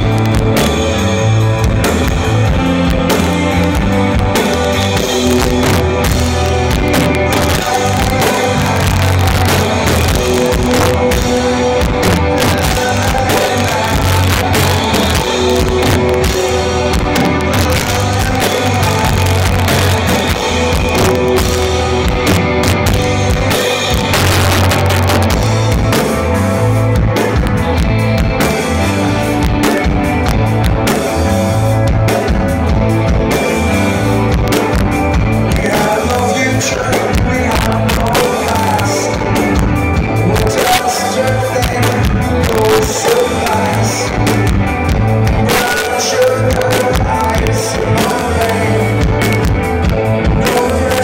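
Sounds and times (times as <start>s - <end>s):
man singing lead vocal: 0.0s - 26.2s, 35.3s - 51.0s
live rock band playing: 0.0s - 51.0s.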